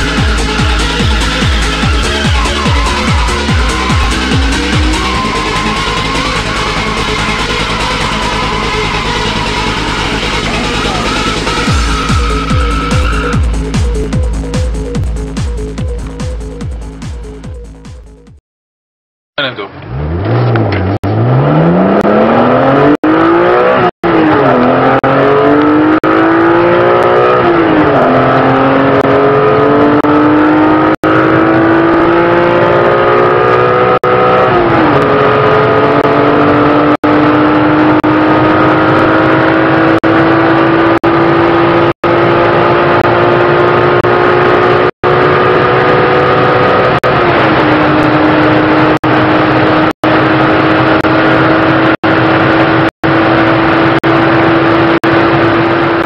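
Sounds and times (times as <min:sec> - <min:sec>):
car engine at full throttle: 0:00.0 - 0:17.4, 0:19.4 - 0:56.0.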